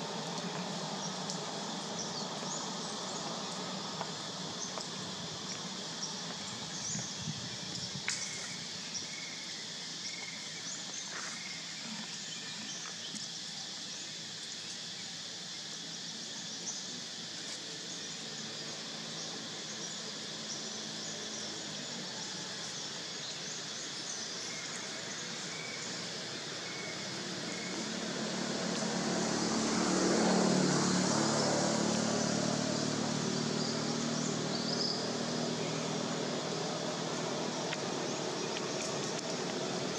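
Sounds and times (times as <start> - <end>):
insects droning: 0.0 - 39.9
outdoor background hiss: 0.0 - 39.9.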